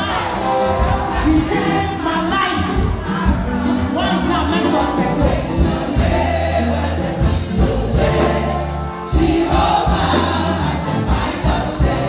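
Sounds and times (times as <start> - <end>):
group singing gospel music: 0.0 - 12.0.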